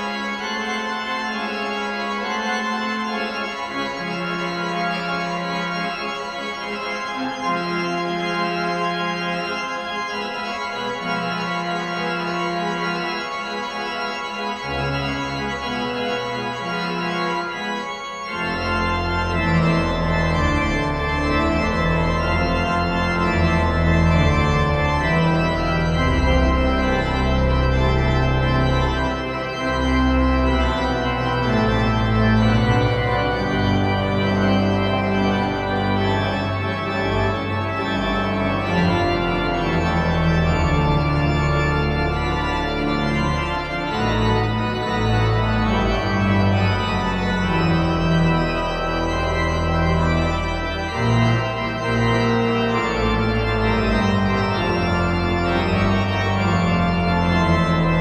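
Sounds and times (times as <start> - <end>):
deep organ pedal bass notes: 0.0 - 58.0
pipe organ chords: 0.0 - 58.0.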